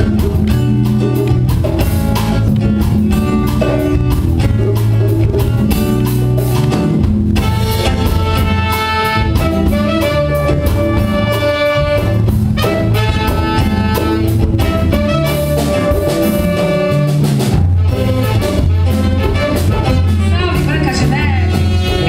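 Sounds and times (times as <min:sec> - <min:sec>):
band playing instrumental music: 0:00.0 - 0:22.0
steady drum beat: 0:00.0 - 0:22.0.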